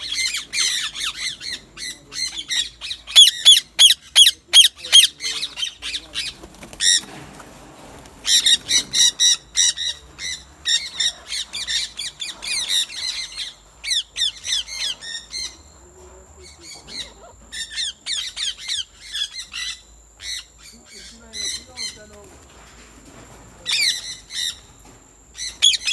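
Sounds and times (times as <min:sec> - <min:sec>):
parrots squawking and chattering: 0:00.0 - 0:25.9.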